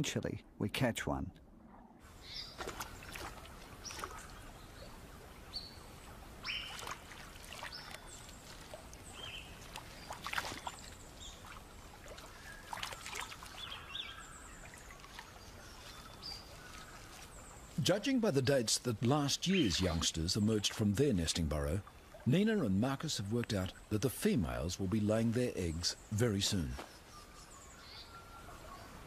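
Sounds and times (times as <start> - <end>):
river water splashing: 2.0 - 26.7.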